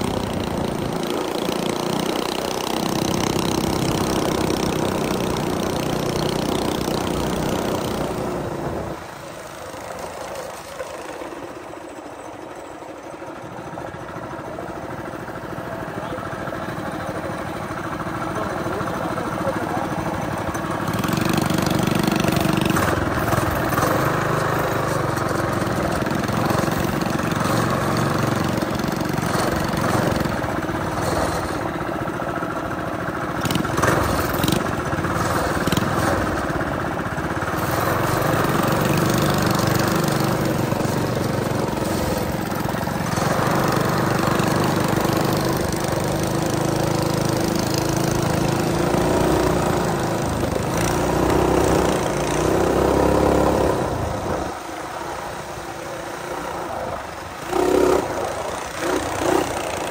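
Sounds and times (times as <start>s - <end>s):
small engine revving: 0.0s - 11.5s, 16.0s - 59.9s.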